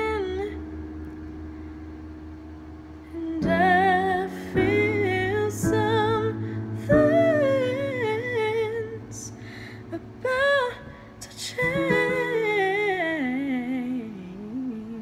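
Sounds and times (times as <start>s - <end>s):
woman singing: 0.0s - 0.8s, 3.1s - 15.0s
held accompaniment chords: 0.0s - 15.0s.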